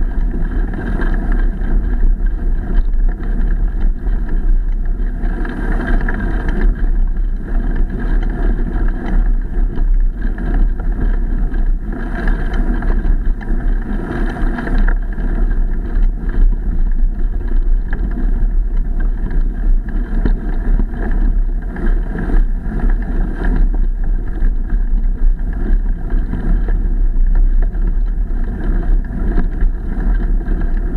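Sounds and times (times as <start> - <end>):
steady rumble of moving ride: 0.0 - 30.9
wind buffeting microphone: 0.0 - 30.9.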